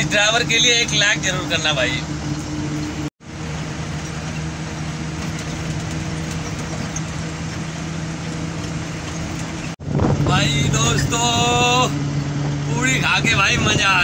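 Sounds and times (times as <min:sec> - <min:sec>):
diesel truck engine drone: 0:00.0 - 0:14.0.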